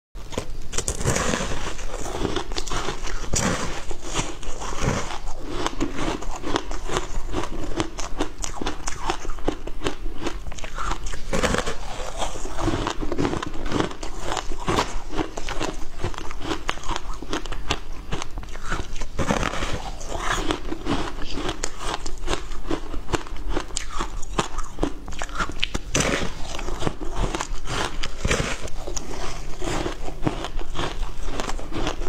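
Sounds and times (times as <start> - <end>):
frozen fruit ice crunching: 0.2 - 32.0.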